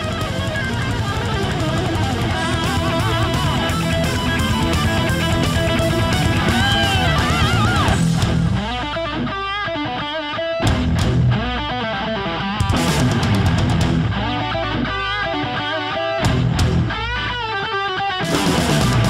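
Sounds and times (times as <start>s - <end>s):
bass and drums: 0.0s - 9.8s, 10.6s - 19.0s
electric guitar lead: 0.0s - 19.0s.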